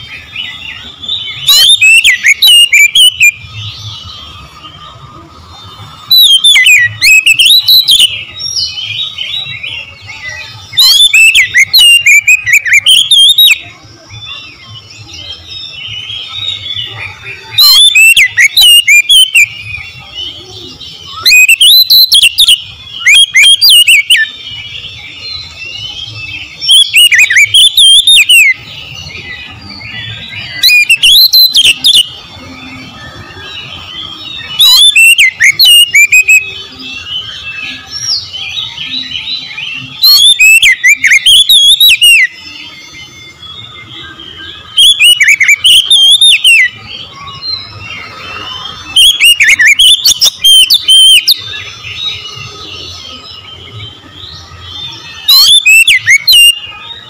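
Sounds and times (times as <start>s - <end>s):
bird singing rapid phrases: 0.0s - 57.0s
soft bird twittering: 0.0s - 57.0s.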